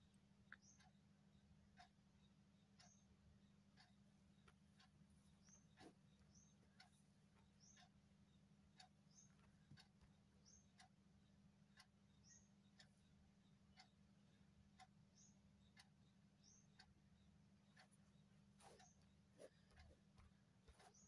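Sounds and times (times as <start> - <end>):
faint low room hum: 0.0 - 21.0
soft regular tick: 0.5 - 11.0, 11.7 - 21.0
faint high chirp: 0.5 - 21.0.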